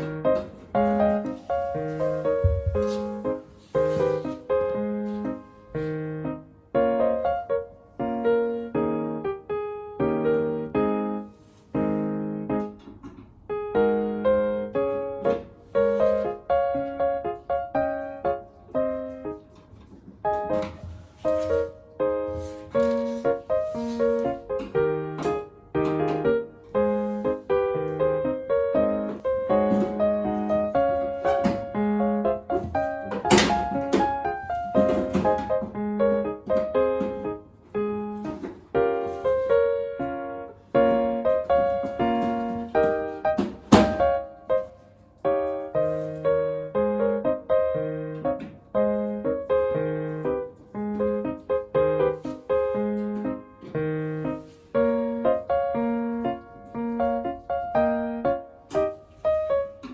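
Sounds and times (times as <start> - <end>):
solo piano music: 0.0 - 59.9.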